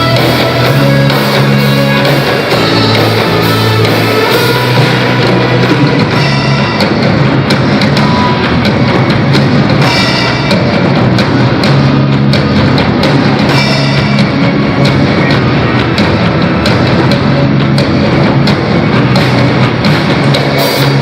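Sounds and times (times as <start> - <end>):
drum kit steady beat: 0.0 - 21.0
sustained bass notes: 0.0 - 21.0.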